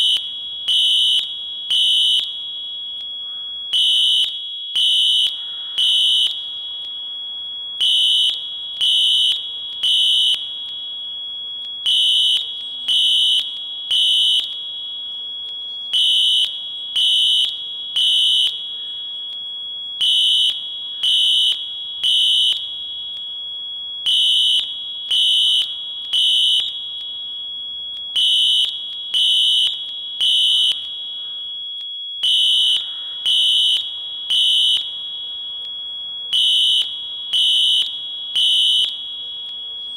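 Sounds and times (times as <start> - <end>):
fire alarm beeps: 0.0 - 39.9
quiet steady alarm tone: 0.0 - 39.9.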